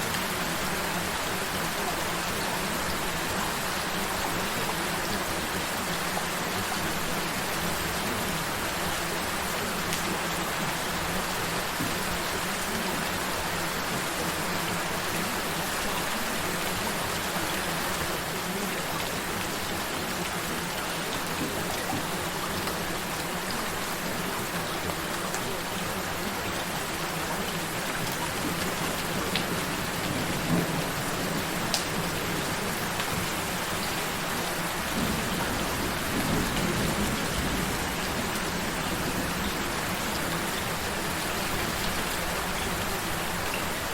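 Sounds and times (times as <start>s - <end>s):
sharp raindrops: 0.0s - 43.9s
steady rain: 0.0s - 43.9s.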